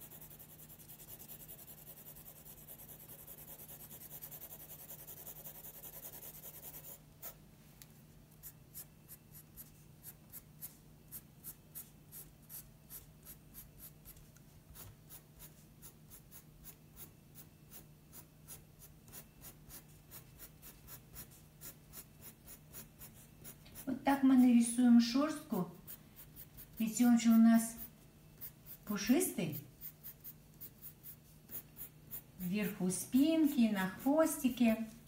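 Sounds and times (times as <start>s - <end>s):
pencil scratching on paper: 0.0s - 7.4s, 8.4s - 34.9s.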